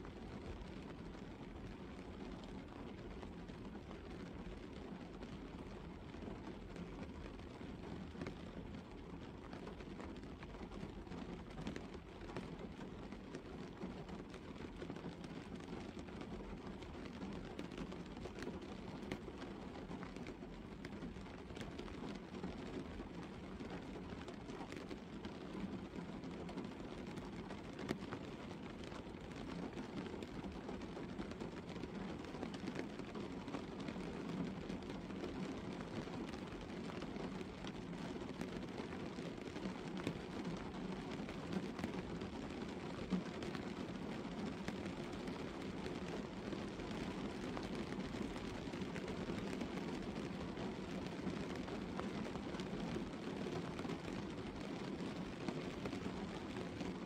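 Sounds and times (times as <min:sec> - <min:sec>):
rain pattering on a car: 0:00.0 - 0:57.0.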